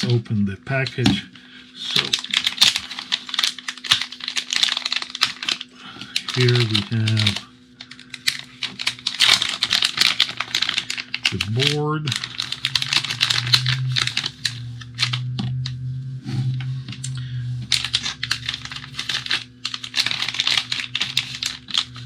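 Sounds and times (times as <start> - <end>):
steady low hum: 0.0 - 22.0
plastic packaging crinkling: 1.8 - 15.4, 16.6 - 22.0.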